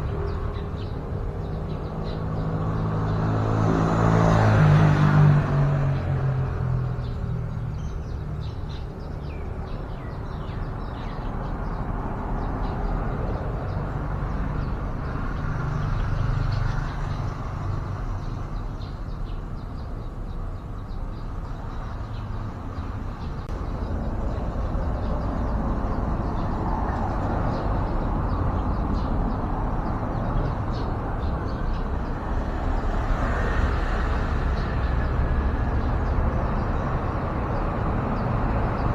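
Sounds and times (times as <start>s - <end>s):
low rumble of road traffic: 0.0s - 38.9s.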